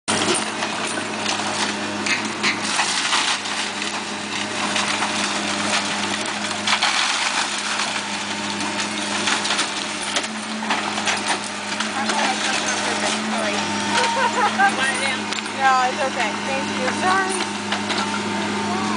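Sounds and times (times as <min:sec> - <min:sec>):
rubble crashing and cracking: 0:00.1 - 0:15.6
excavator diesel engine hum: 0:00.1 - 0:18.9.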